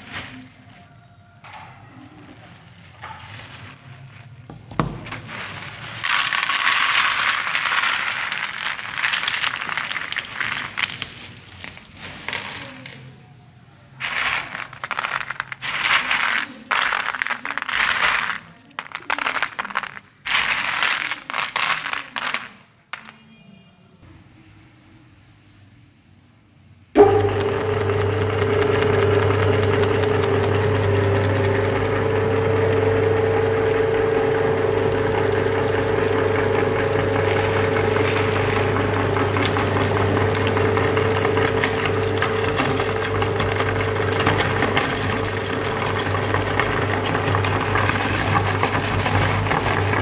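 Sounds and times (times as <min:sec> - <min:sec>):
papadum crunching in meat grinder: 0:02.0 - 0:12.4, 0:14.0 - 0:22.6, 0:27.0 - 0:50.0.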